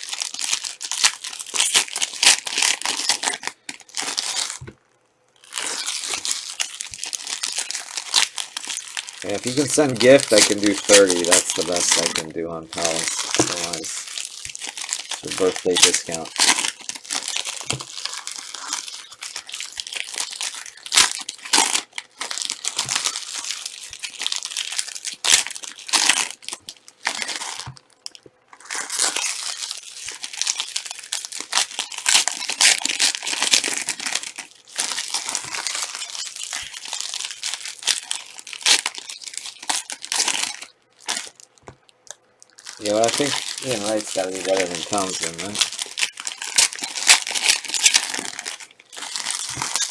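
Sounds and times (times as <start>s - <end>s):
wrappers crinkling and tearing: 0.0s - 49.9s.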